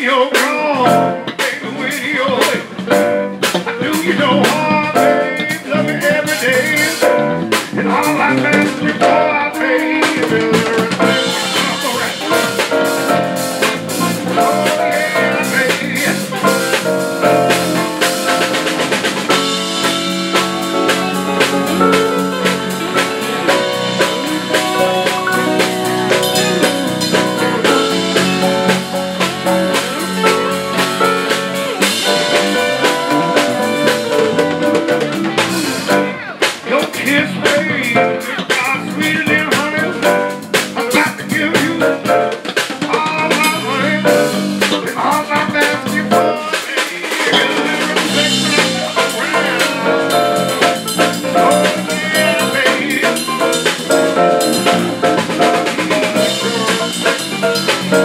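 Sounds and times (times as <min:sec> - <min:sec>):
live band playing instrumental: 0:00.0 - 0:58.0.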